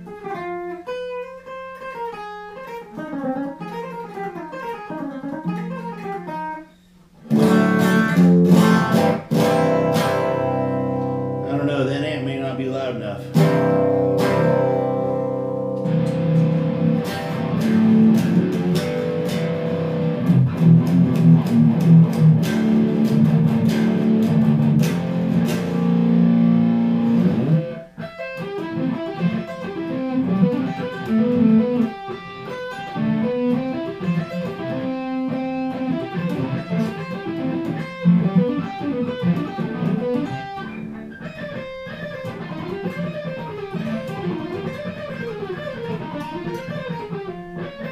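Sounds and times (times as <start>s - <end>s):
electric guitar chords: 0.0s - 47.9s
electric guitar lead runs: 7.2s - 47.9s.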